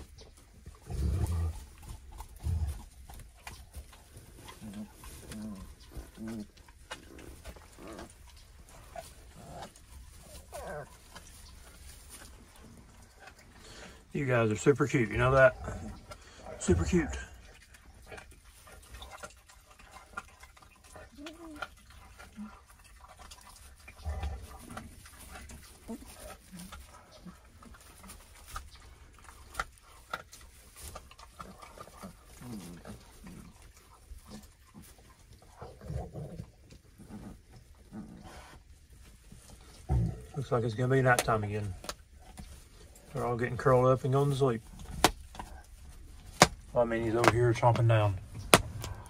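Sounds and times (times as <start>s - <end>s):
puppies grunting and whimpering: 0.0s - 40.6s.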